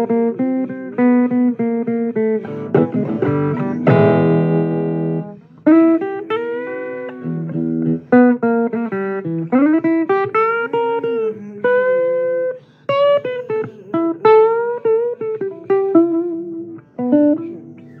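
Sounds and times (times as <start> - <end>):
blues guitar lead with bent notes: 0.0 - 18.0.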